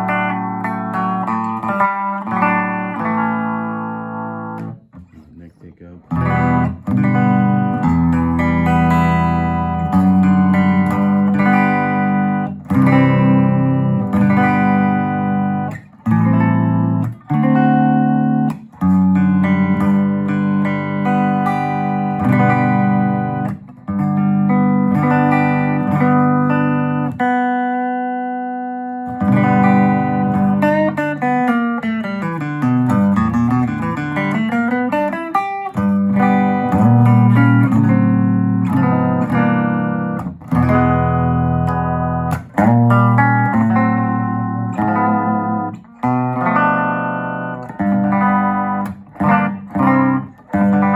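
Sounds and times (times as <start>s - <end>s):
electric guitar chords: 0.0s - 50.9s
electric guitar single notes: 0.0s - 50.9s.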